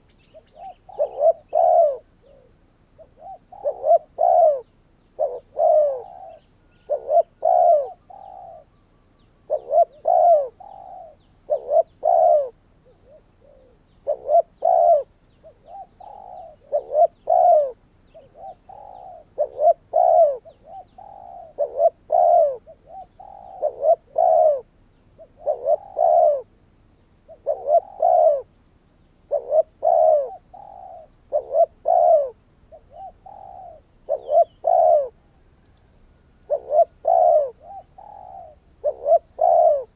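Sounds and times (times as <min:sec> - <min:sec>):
dove cooing: 0:00.0 - 0:26.5, 0:27.3 - 0:28.5, 0:29.2 - 0:35.4, 0:36.4 - 0:39.9.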